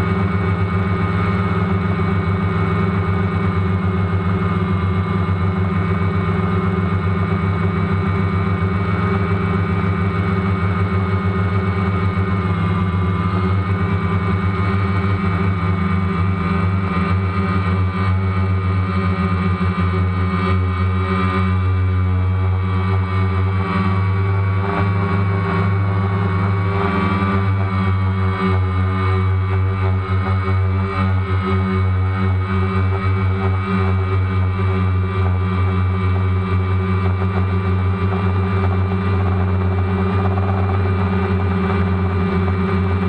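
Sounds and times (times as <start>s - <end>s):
drone propellers buzzing: 0.0s - 43.0s.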